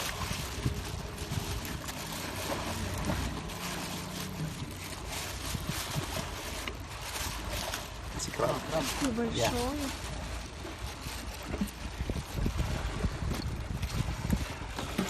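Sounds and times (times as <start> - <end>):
boat engine rumbling: 0.0 - 15.0
outdoor noise: 0.0 - 15.0.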